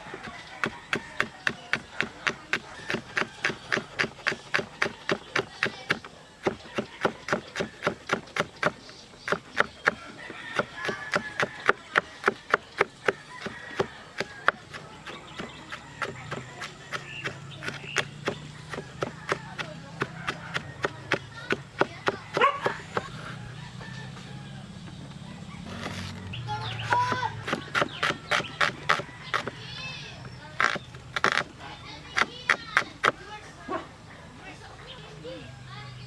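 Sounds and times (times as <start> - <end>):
knife chopping on wooden board: 0.0 - 23.8, 25.6 - 33.2.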